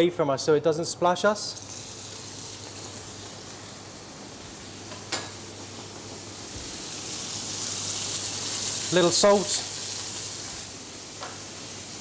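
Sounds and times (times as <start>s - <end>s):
meat sizzling in hot oil: 1.6s - 12.0s.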